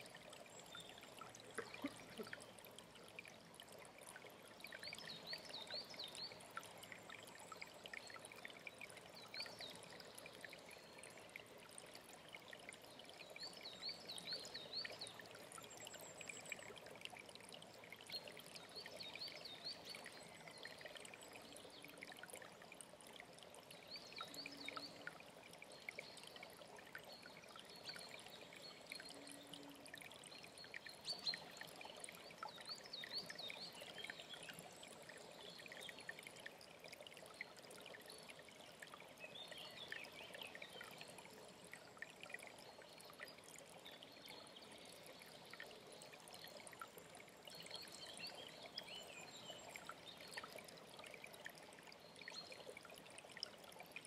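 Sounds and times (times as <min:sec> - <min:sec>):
faint stream running: 0:00.0 - 0:54.0.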